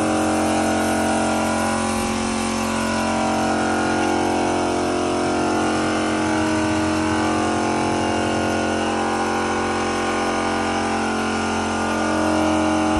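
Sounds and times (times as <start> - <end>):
pressure washer motor hum: 0.0 - 12.9
water jet hissing: 0.0 - 12.9.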